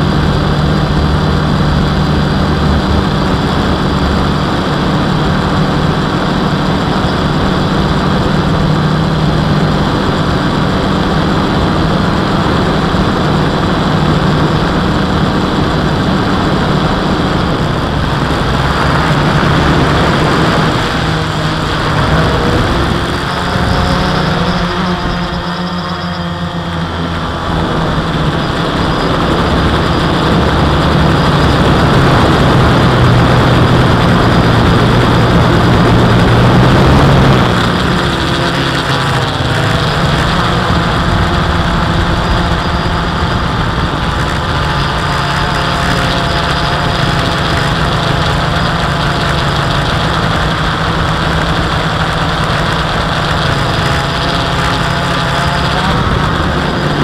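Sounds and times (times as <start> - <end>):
drone motors and propellers humming: 0.0 - 57.0
wind noise: 0.0 - 57.0.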